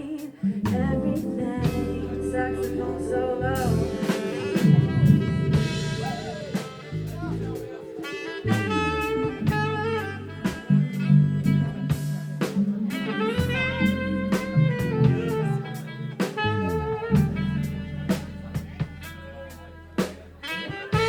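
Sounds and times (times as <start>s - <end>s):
drum kit with cymbals: 0.0s - 21.0s
walking bass line: 0.7s - 7.7s, 8.4s - 20.4s
melodic lead solo: 0.8s - 18.0s.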